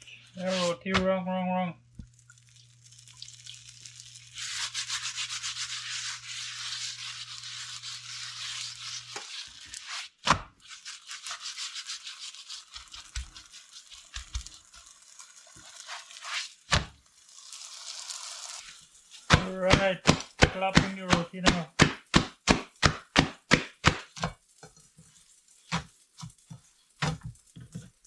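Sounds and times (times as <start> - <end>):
flatbread sizzling in hot oil: 1.8 - 28.0.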